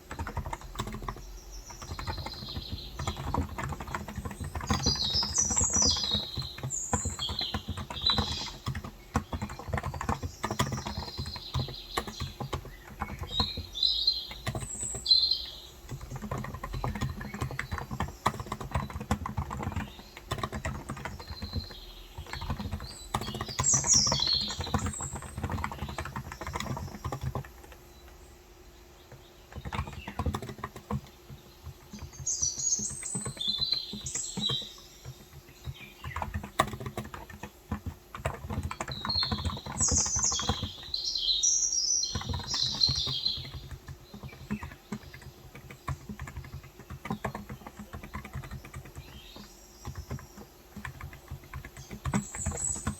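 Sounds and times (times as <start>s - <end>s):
small birds chirping: 0.0s - 52.9s
typing on keyboard: 0.0s - 52.9s.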